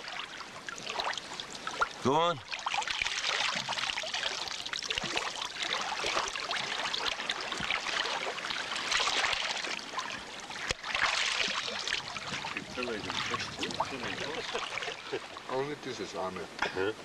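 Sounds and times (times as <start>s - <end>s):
running water trickling and splashing: 0.0s - 16.5s.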